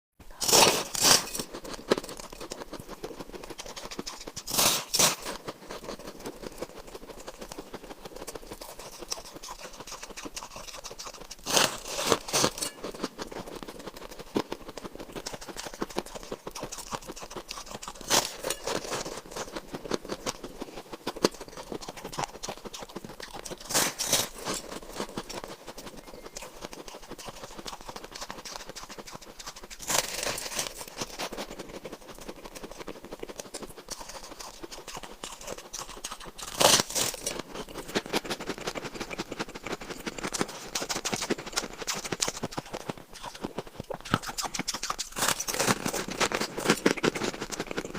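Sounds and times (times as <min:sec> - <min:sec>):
crackling chewing: 0:00.2 - 0:47.9
crunching bite of ice: 0:00.3 - 0:47.9.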